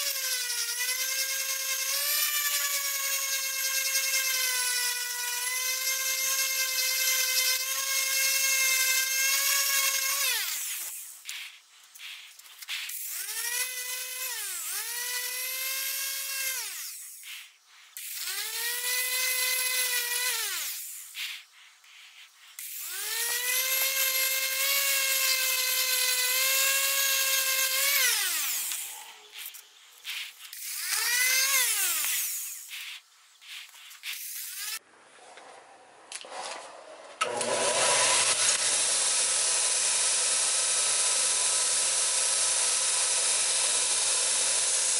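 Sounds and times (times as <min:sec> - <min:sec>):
orbital sander whining: 0:00.0 - 0:34.8, 0:37.2 - 0:44.9.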